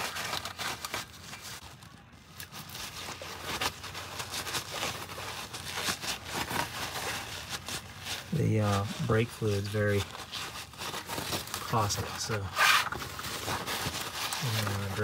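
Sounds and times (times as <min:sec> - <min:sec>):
small crackles and scrapes: 0:00.0 - 0:15.0
towel crinkling and rustling: 0:00.0 - 0:15.0.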